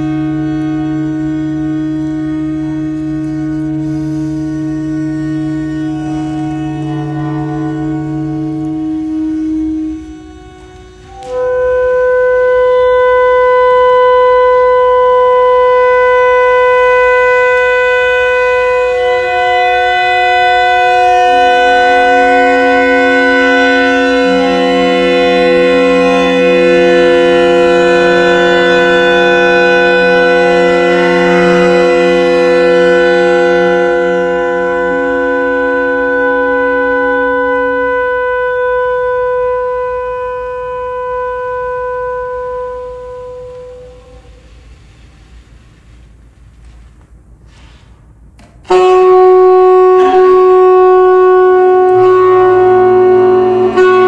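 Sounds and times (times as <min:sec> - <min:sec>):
alto saxophone playing long notes: 0:00.0 - 0:45.3, 0:48.4 - 0:54.0
clarinets playing long notes: 0:00.0 - 0:45.3, 0:48.6 - 0:54.0.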